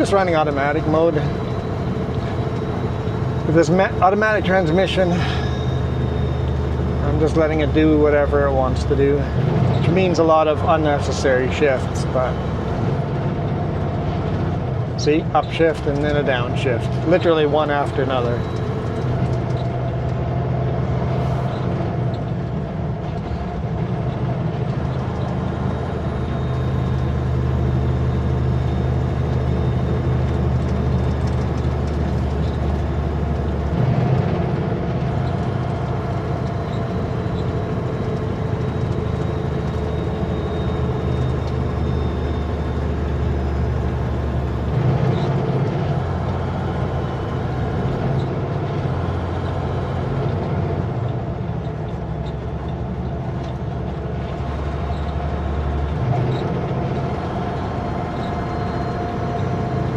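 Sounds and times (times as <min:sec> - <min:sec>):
truck diesel engine droning: 0:00.0 - 0:59.9.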